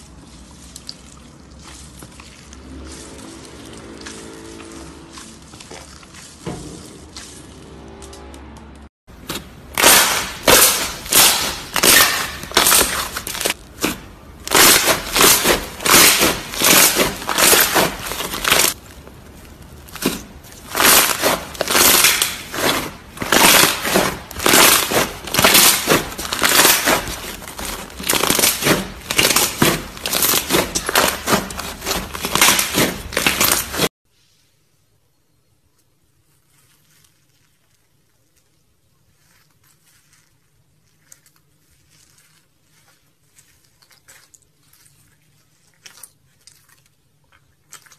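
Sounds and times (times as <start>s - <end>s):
slime squelching: 0.0s - 8.0s, 9.1s - 33.9s, 35.7s - 47.9s.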